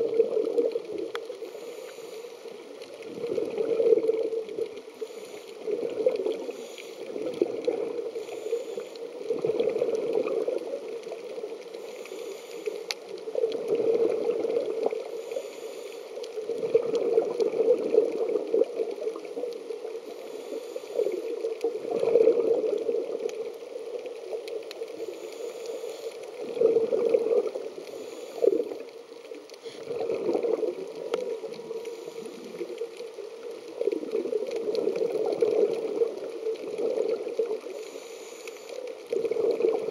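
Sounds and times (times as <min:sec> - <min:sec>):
scuba regulator bubbles gurgling: 0:00.0 - 0:39.9.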